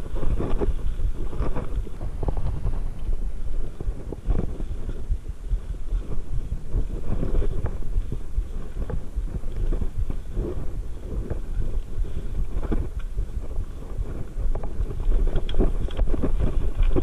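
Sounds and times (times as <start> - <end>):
bike rattling: 0.0 - 17.0
bike tyres on stones: 0.0 - 17.0
wind rumble on microphone: 0.0 - 17.0.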